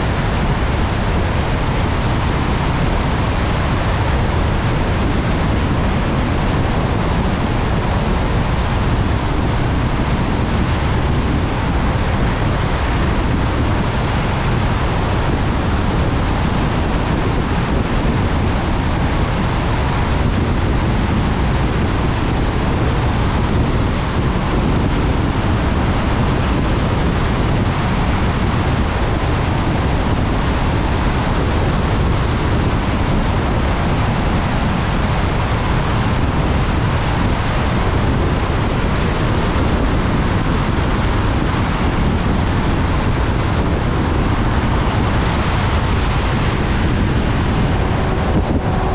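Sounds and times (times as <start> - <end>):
deep road rumble: 0.0 - 48.9
tyres hissing on wet road: 0.0 - 48.9.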